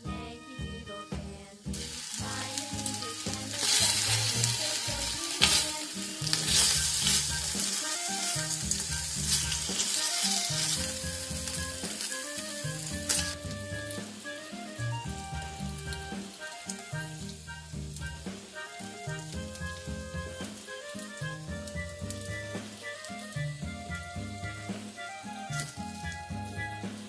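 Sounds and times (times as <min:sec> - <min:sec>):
background music: 0:00.0 - 0:27.0
pork sizzling in a pot: 0:00.0 - 0:27.0.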